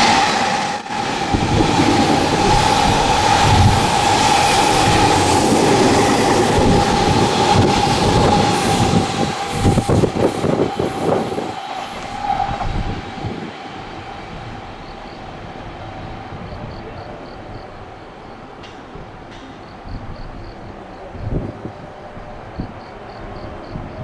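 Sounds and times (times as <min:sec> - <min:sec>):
electric train passing: 0:00.0 - 0:24.0.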